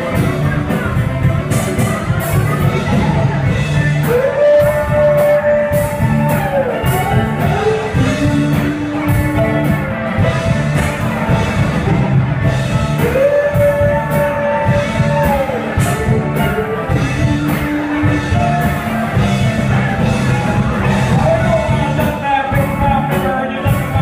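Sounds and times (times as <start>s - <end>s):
person singing: 0.0s - 10.4s, 12.7s - 24.0s.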